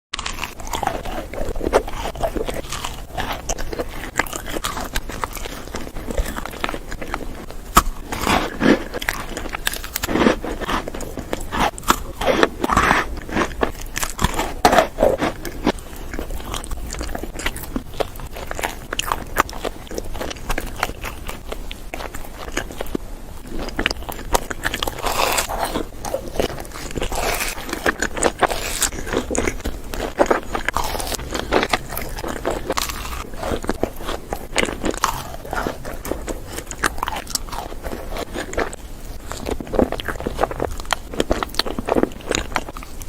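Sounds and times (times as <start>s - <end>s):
chewing crunchy sweets: 0.1s - 43.0s.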